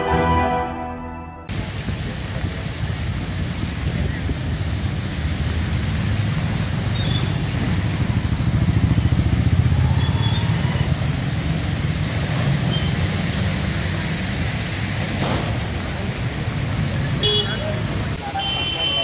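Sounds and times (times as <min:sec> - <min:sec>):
heavy rain: 0:01.5 - 0:19.0
traffic through floodwater: 0:01.5 - 0:19.0.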